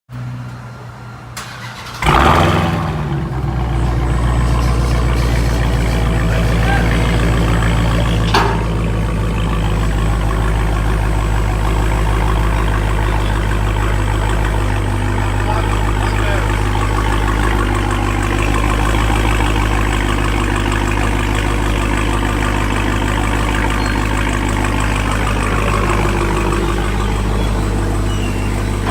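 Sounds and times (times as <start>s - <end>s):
car engine revving and idling: 0.2s - 28.9s.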